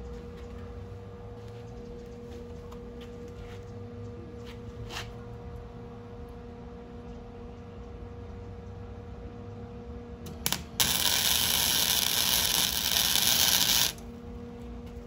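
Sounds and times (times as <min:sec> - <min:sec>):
welder electrical hum: 0:00.0 - 0:15.0.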